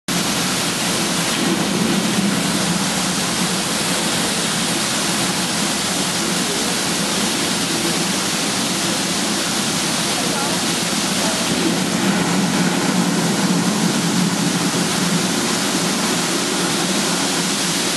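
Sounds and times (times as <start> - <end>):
fountain jets spraying water: 0.1 - 17.9.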